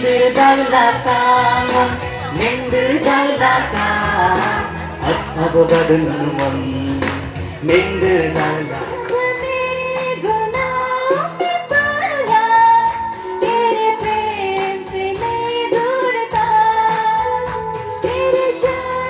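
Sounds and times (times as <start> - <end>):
instrumental accompaniment with beat: 0.0 - 19.0
woman singing worship song: 0.0 - 19.0.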